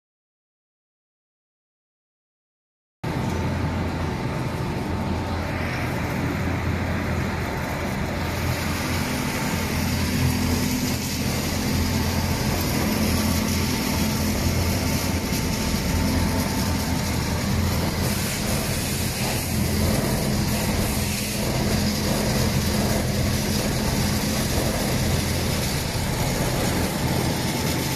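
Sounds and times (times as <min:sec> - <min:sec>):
buffing machine motor hum: 0:04.5 - 0:27.9
buffing wheels hissing: 0:05.3 - 0:27.9.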